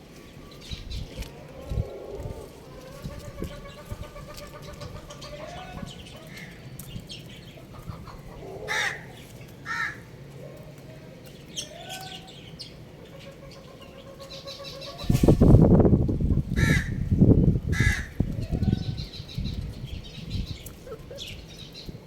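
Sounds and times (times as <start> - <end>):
chickens calling: 0.0 - 22.0.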